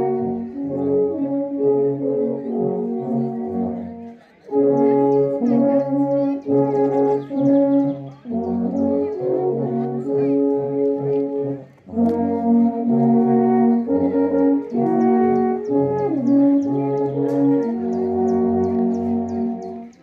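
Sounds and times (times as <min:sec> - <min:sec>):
alphorn ensemble playing: 0:00.0 - 0:20.0.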